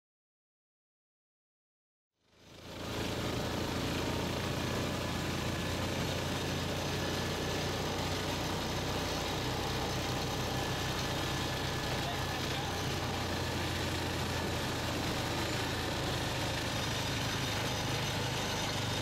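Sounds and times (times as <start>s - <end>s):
motorcycle engine running: 2.2s - 19.0s.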